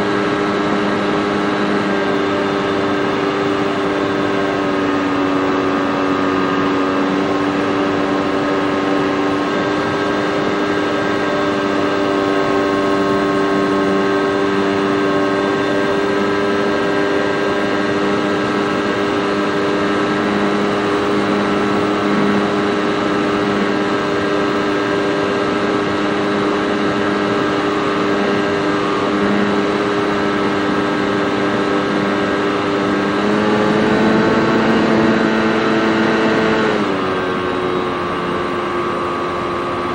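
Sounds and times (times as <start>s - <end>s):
model airplane motor humming: 0.0s - 39.9s.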